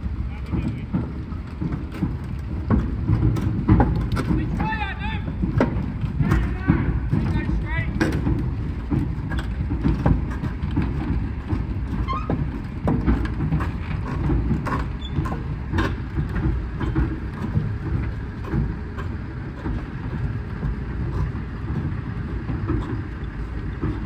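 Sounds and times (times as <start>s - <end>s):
truck diesel engine under load: 0.0s - 24.0s
tank tracks clanking and squeaking: 0.3s - 24.0s.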